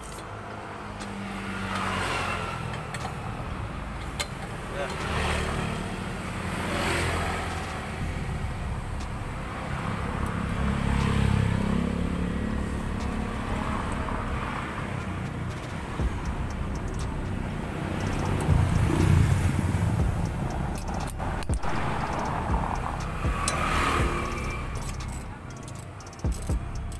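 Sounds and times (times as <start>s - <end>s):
vehicle engine rumble: 0.0s - 26.9s.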